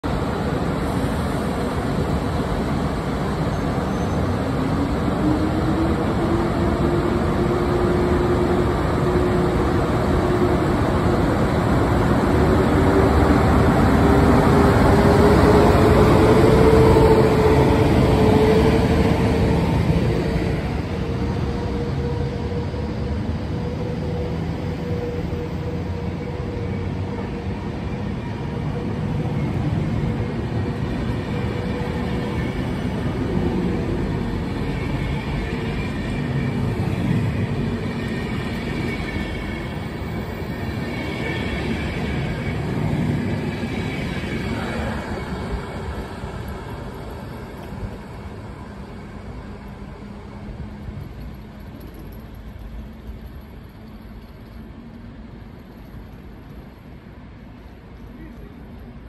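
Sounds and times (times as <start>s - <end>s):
train wheels rumbling on rails: 0.0s - 59.0s
electric locomotive whine: 0.1s - 59.0s.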